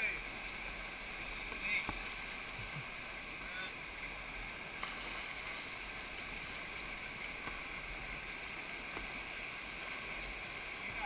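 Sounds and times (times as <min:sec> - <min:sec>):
whitewater rapid rushing: 0:00.0 - 0:11.0.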